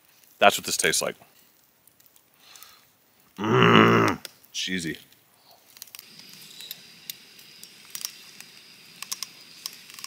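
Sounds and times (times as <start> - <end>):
campfire sizzling and popping: 0.0 - 10.0.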